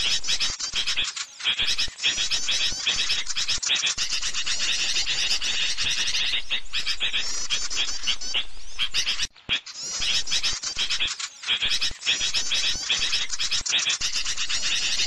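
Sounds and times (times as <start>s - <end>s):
small birds chirping rapidly: 0.0s - 15.0s.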